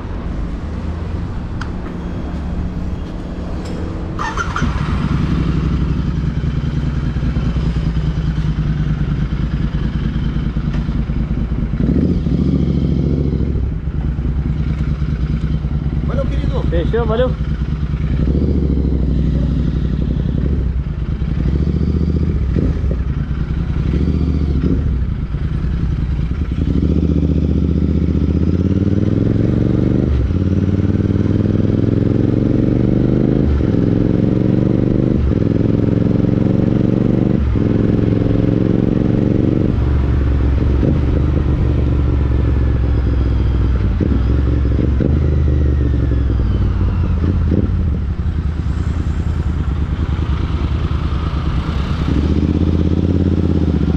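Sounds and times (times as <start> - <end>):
motorcycle engine accelerating: 1.2 - 53.9.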